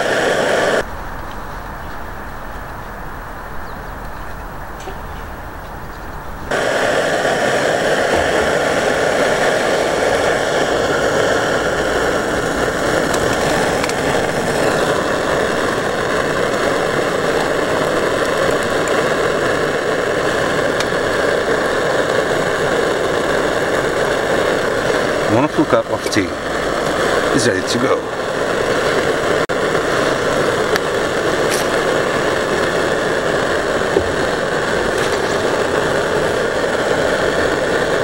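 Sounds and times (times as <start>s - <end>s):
gas stove burner hissing: 0.0s - 38.0s.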